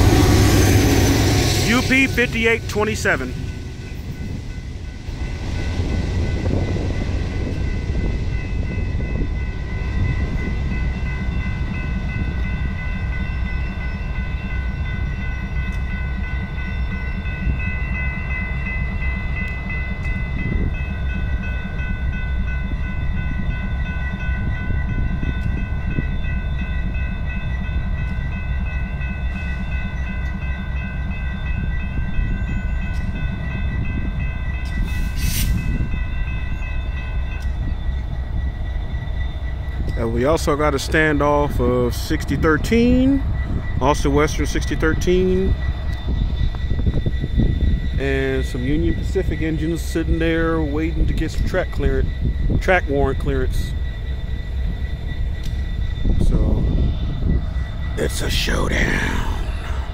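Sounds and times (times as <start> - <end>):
crossing warning bells: 0.0 - 59.9
freight train rumbling: 0.0 - 59.9.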